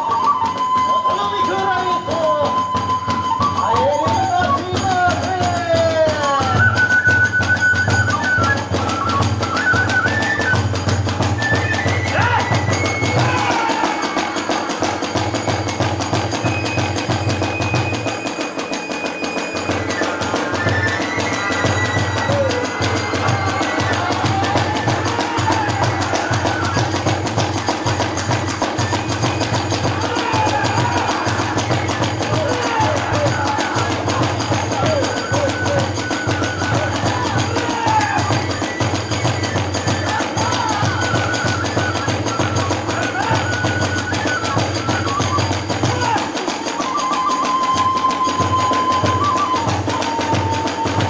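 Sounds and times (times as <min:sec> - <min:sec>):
bamboo flute melody: 0:00.0 - 0:51.0
hand cymbals: 0:00.0 - 0:51.0
taiko drums beating: 0:00.0 - 0:51.0.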